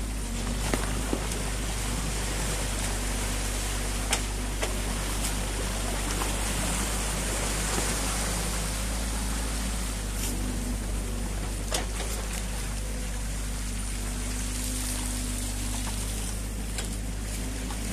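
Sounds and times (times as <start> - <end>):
excavator engine running: 0.0 - 17.9
stream water rushing: 0.0 - 17.9.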